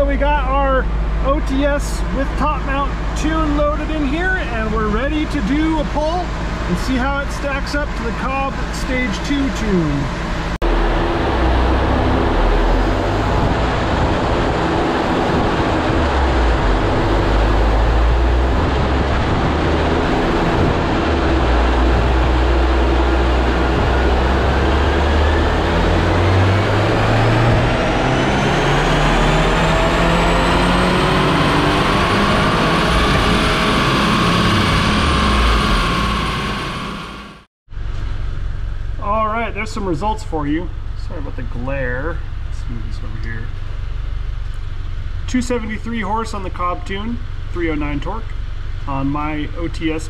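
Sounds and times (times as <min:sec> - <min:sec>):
car engine running hard: 0:00.0 - 0:50.0
turbo whine rising: 0:00.0 - 0:50.0.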